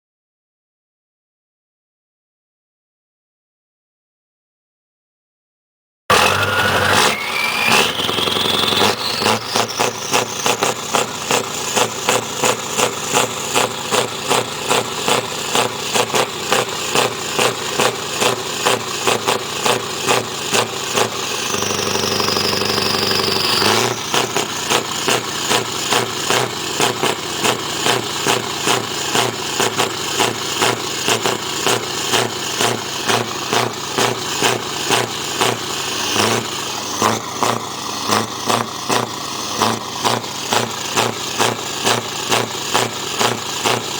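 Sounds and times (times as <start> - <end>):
engine knocking: 6.1 - 43.9
engine whine: 6.1 - 43.9.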